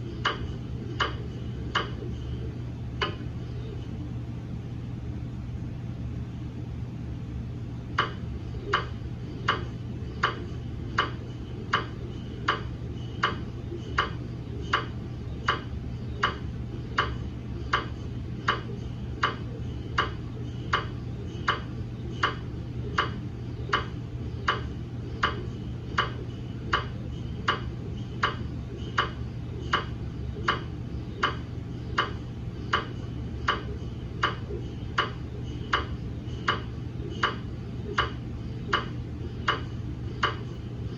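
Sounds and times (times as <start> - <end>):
mri scanner knocking: 0.0 - 2.4, 8.0 - 40.9
steady low hum: 0.0 - 40.9.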